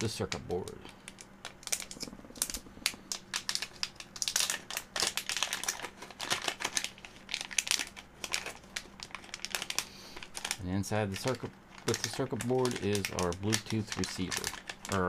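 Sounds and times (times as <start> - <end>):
plastic bag crackling: 0.4 - 15.0.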